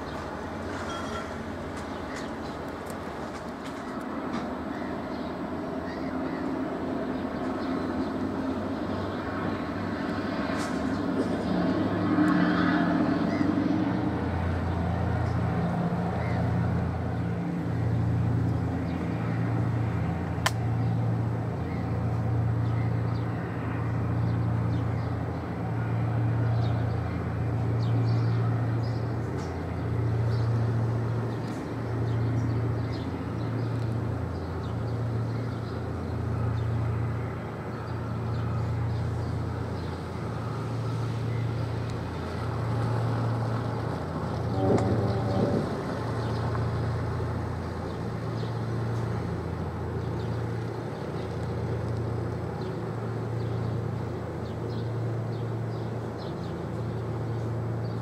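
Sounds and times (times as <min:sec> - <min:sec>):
ship diesel engine drone: 0:00.0 - 0:58.0.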